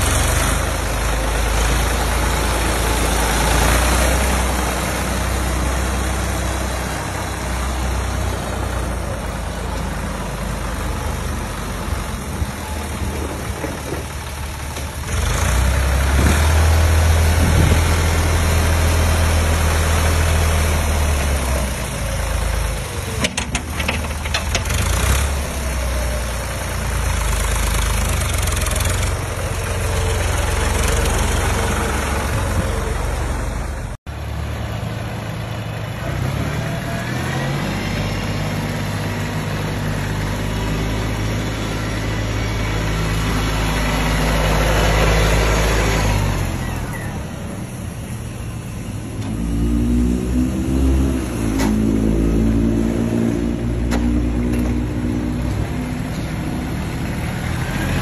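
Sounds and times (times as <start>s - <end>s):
tractor engine running: 0.0s - 49.9s, 51.2s - 58.0s.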